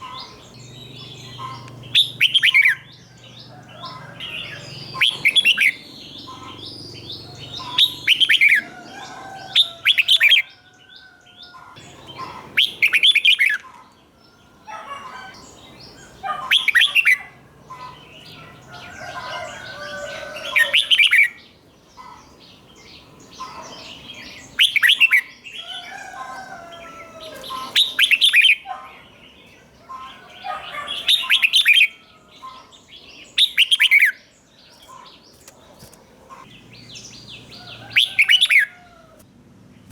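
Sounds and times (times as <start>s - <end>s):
bird singing warbling phrases: 0.0s - 38.8s
faint bird chirping: 0.0s - 39.0s.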